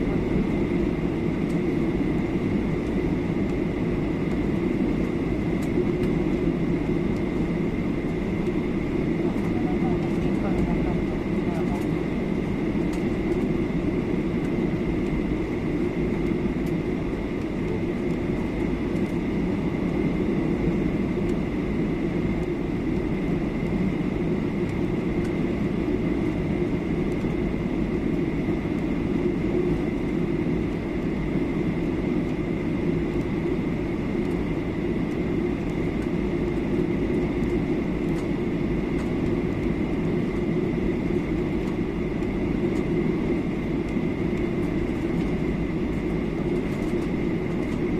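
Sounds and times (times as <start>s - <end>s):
airflow and engine rush in cabin: 0.0s - 47.9s.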